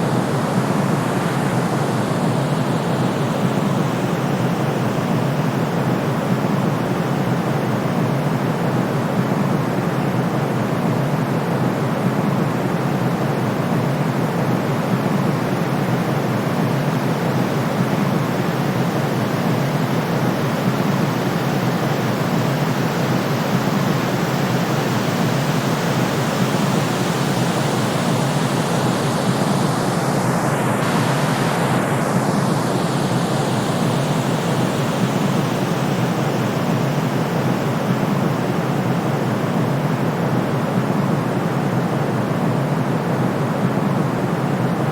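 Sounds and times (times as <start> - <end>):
white noise hiss: 0.0 - 44.9.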